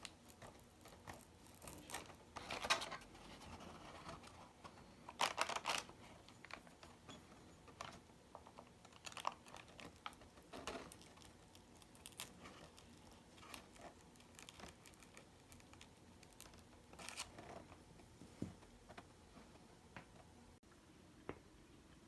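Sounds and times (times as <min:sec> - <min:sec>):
paper crinkling and rustling: 0:00.1 - 0:19.1.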